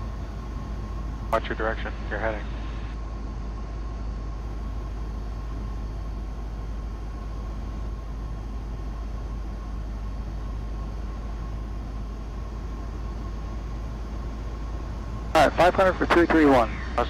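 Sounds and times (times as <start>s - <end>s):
airplane engine and propeller drone: 0.0s - 17.0s
faint high whine: 0.0s - 17.0s.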